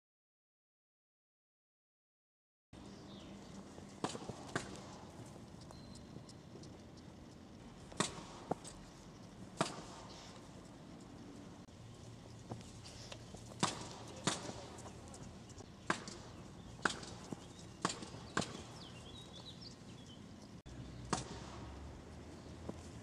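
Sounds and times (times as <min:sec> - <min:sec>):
bird chirping: 0:02.8 - 0:23.0.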